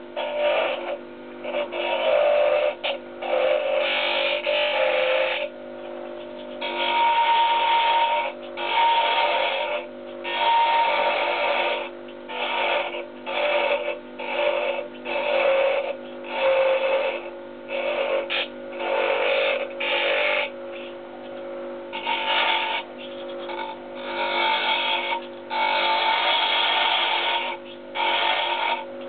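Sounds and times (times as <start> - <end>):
steady ringing tone: 0.0 - 29.0
wood lathe humming: 0.0 - 29.0
turning tool scraping wood: 0.2 - 29.0.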